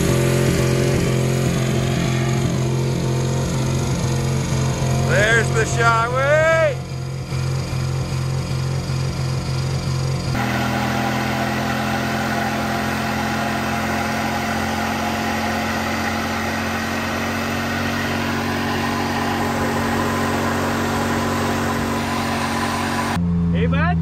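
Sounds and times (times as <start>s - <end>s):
tyres spinning: 0.0s - 23.2s
truck engine revving: 0.0s - 23.8s.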